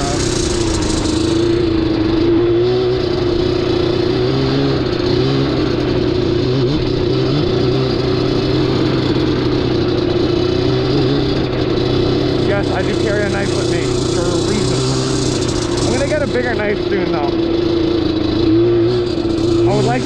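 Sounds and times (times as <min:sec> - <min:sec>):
two-stroke engine running: 0:00.0 - 0:20.0.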